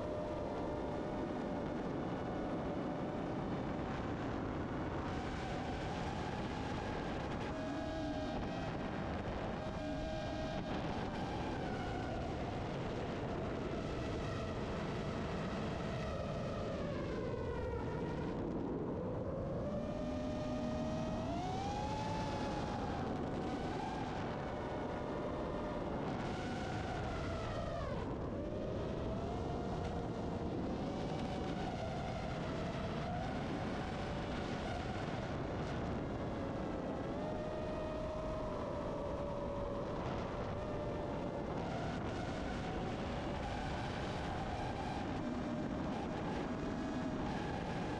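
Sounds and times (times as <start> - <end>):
rush of wind: 0.0 - 47.9.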